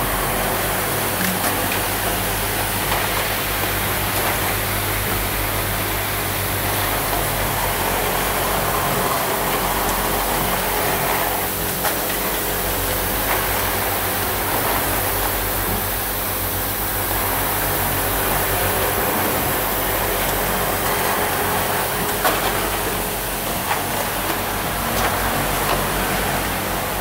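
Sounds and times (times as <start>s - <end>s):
machine hum and hiss: 0.0s - 27.0s.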